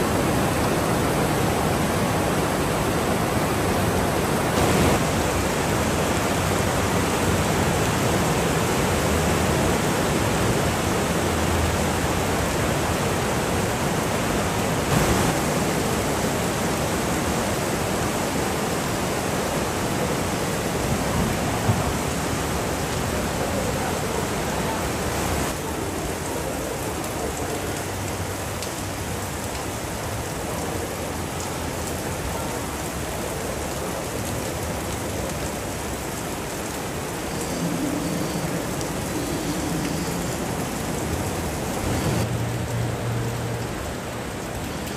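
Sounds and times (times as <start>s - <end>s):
rain falling steadily: 0.0s - 44.9s.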